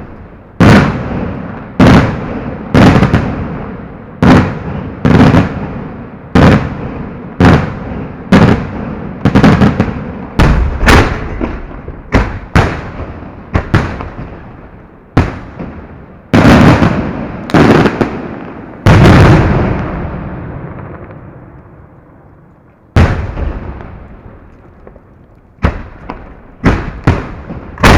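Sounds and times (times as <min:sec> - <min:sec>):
fireworks bangs with rumbling echo: 0:00.0 - 0:22.0, 0:22.9 - 0:27.9.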